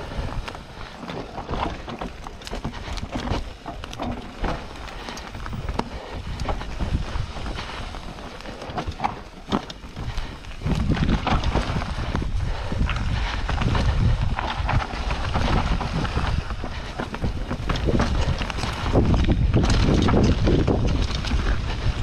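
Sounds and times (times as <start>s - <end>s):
bike rattling clicks and knocks: 0.0s - 22.0s
bike tyres rolling over dirt: 0.0s - 22.0s.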